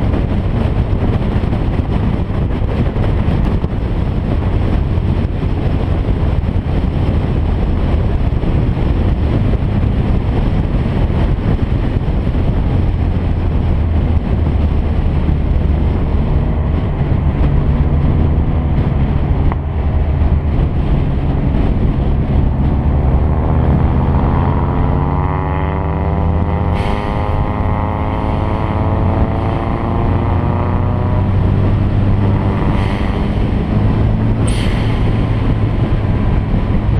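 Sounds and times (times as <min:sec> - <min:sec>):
car engine running under load: 0:00.0 - 0:36.9
wind and road noise: 0:00.0 - 0:36.9.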